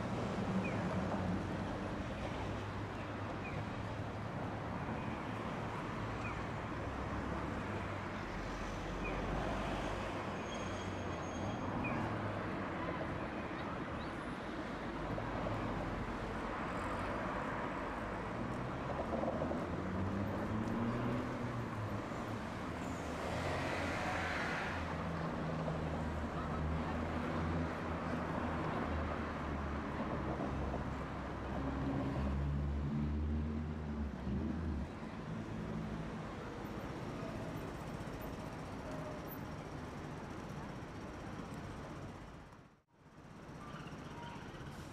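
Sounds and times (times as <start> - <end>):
vehicles passing and pulling away: 0.0 - 44.9.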